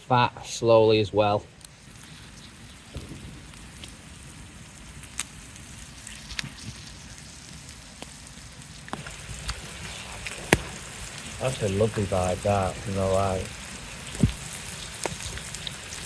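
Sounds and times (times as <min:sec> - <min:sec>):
meat sizzling in a pan: 0:01.8 - 0:16.0.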